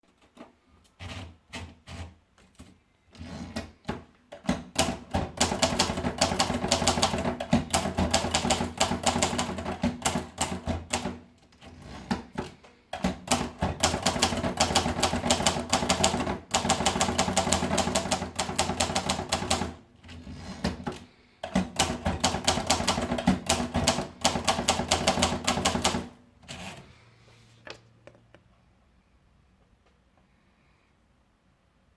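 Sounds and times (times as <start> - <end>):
manual typewriter typing: 0.1 - 26.8.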